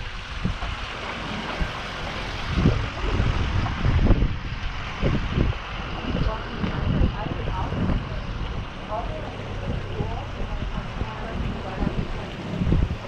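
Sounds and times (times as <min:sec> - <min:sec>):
steady rushing hiss: 0:00.0 - 0:13.0
wind buffeting microphone: 0:00.0 - 0:13.0.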